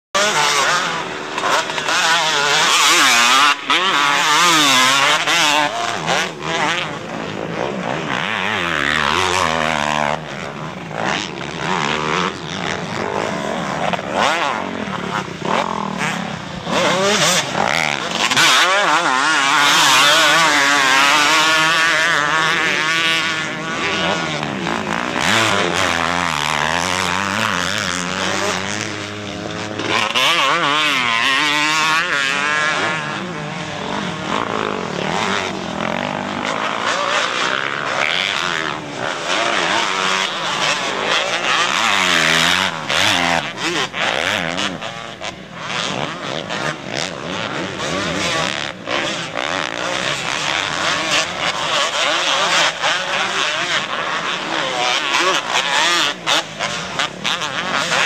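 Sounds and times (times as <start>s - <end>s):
motocross bike engines revving: 0.2s - 58.0s.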